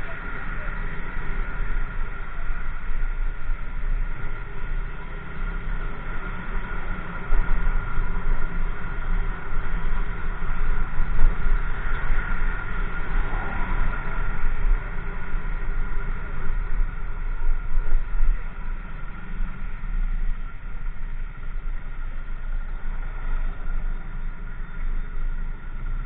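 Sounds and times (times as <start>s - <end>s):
motorcycle engine drone: 0.0s - 26.0s
steady whine: 0.0s - 26.0s
wind buffeting microphone: 0.0s - 26.0s.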